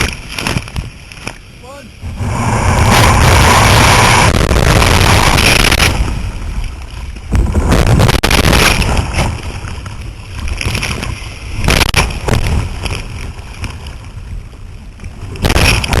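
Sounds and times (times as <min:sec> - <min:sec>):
water splashing around kayak: 0:00.0 - 0:16.0
heavy low rumble: 0:01.5 - 0:16.0.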